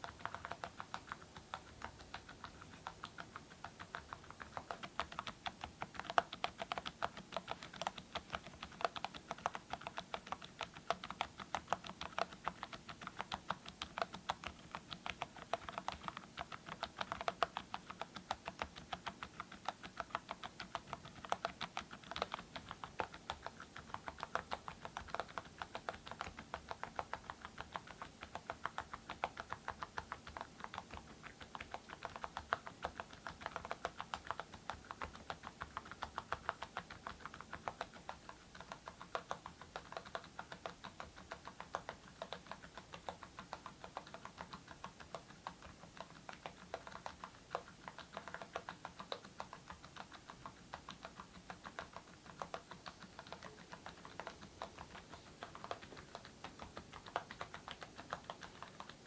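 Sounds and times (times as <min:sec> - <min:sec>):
fast typing on mechanical keyboard: 0:00.0 - 0:59.0.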